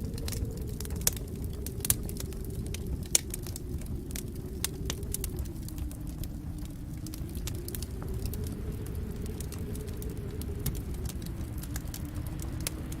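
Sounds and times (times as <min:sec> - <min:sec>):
fireplace fire crackling: 0:00.0 - 0:13.0
low rush of flame: 0:00.0 - 0:13.0.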